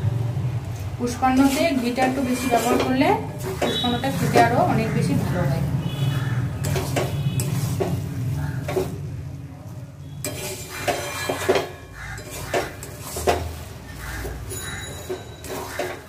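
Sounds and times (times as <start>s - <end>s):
metal spatula scraping a wok: 1.0s - 9.1s, 10.0s - 16.0s.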